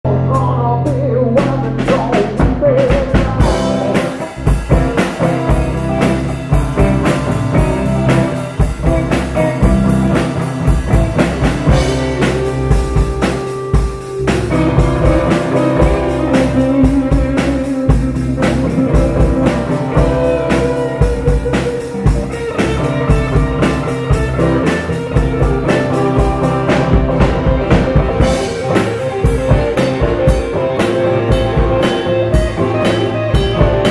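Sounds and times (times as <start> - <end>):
acoustic and electric guitars: 0.0 - 33.9
electric bass: 0.0 - 33.9
drum kit beat: 0.1 - 33.9.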